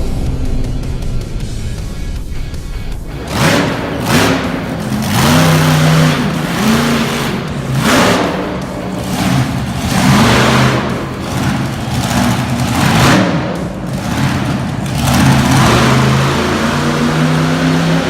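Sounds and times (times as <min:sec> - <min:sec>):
truck engine revving hard: 0:00.0 - 0:18.0.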